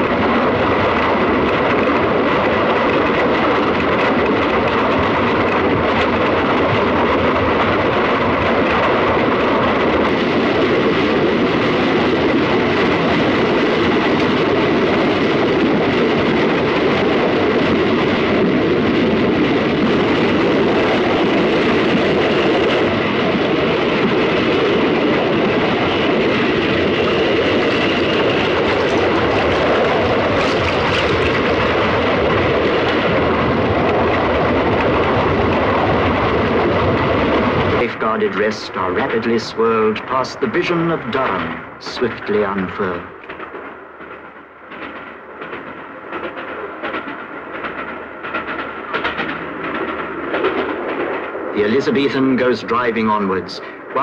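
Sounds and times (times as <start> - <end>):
steam locomotive rushing rumble: 0.0 - 54.0.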